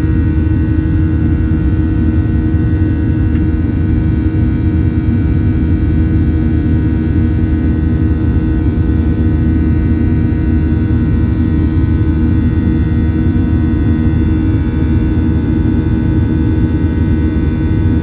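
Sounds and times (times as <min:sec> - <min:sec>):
jet engine rumble in cabin: 0:00.0 - 0:18.0.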